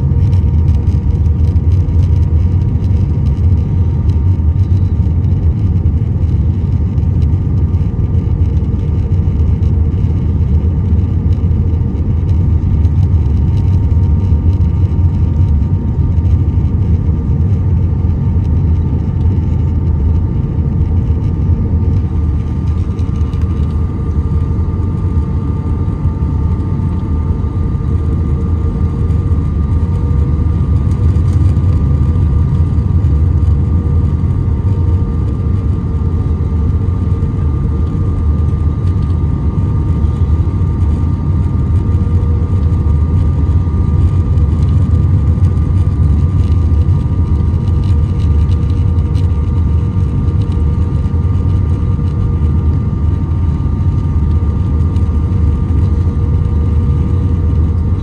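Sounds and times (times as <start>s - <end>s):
low rumble of engines and air: 0.0s - 58.0s.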